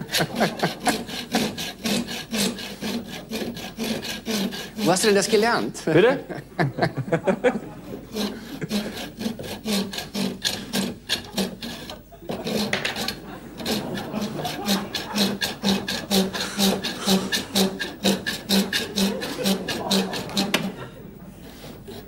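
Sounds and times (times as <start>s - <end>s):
hand saw rasping on metal: 0.0s - 5.7s, 8.0s - 22.0s.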